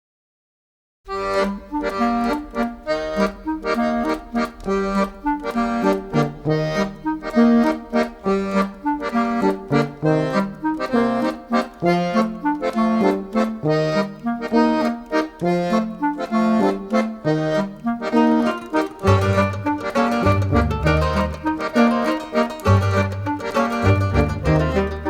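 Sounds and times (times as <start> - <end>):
accordion playing chords: 1.1 - 25.0.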